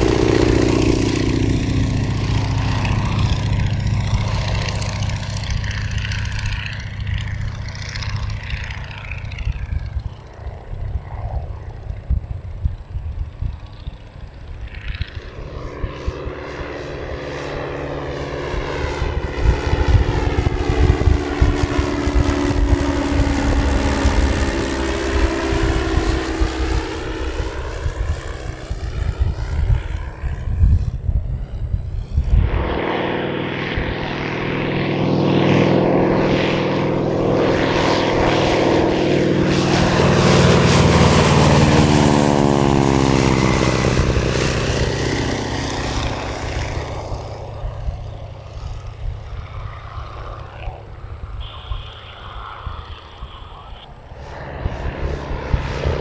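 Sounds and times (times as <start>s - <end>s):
gusty low rumble: 0.0s - 56.0s
propeller plane flying past: 0.0s - 56.0s.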